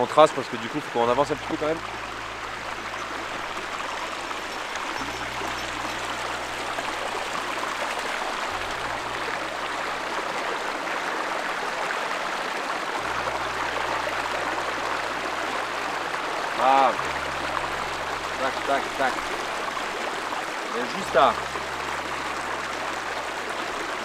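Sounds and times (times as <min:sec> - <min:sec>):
stream running over stones: 0:00.0 - 0:24.0.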